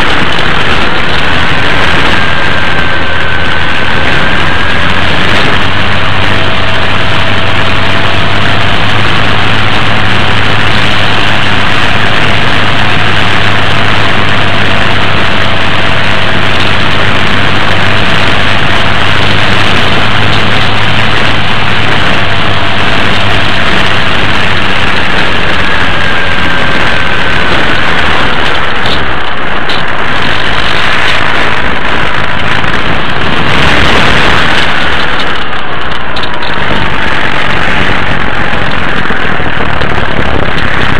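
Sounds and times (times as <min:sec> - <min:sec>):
model airplane motor and wind rush: 0:00.0 - 0:40.9.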